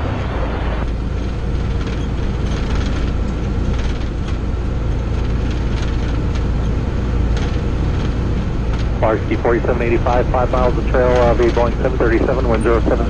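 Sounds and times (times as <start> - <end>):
road noise: 0.0 - 13.0
truck engine drone: 0.0 - 13.0.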